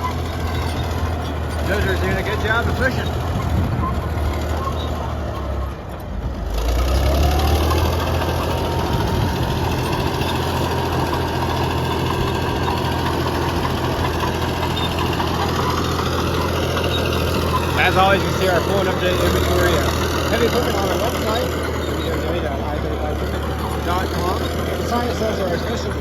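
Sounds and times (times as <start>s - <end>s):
bulldozer diesel engine: 0.0s - 26.0s.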